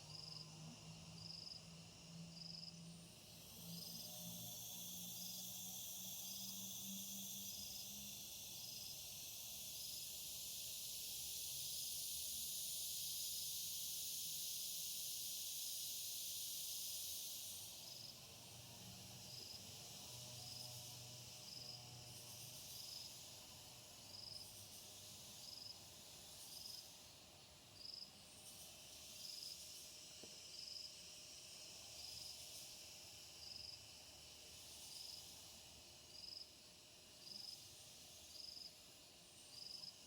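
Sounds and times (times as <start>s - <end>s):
insects buzzing: 0.0s - 40.0s
short high insect chirp: 3.5s - 40.0s.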